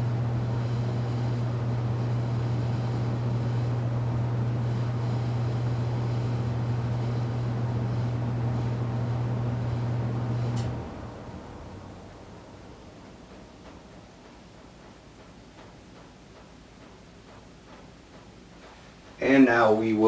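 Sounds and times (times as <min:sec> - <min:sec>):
ceiling fan humming: 0:00.0 - 0:20.0.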